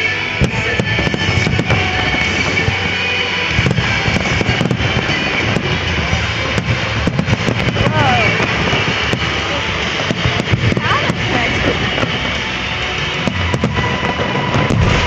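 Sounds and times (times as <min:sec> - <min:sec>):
continuous rumble: 0:00.0 - 0:15.0
fireworks bursting with sharp bangs: 0:00.0 - 0:15.0.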